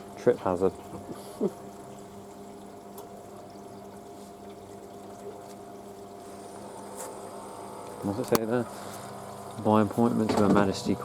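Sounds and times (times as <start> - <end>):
washing machine low hum: 0.0 - 11.0
water running into drum: 0.0 - 11.0.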